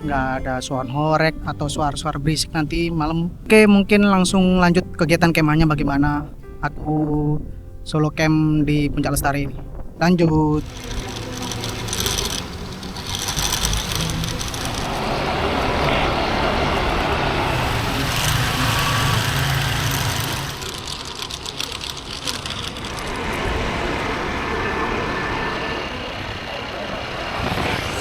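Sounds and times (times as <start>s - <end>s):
strong wind buffeting microphone: 1.4s - 28.0s.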